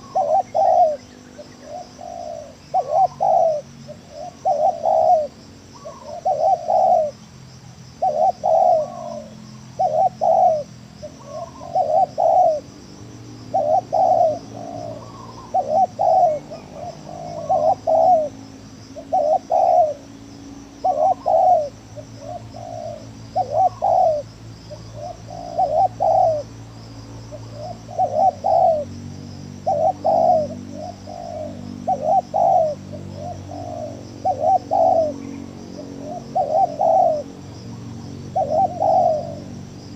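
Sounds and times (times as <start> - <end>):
doves cooing: 0.0 - 7.2, 8.0 - 39.9.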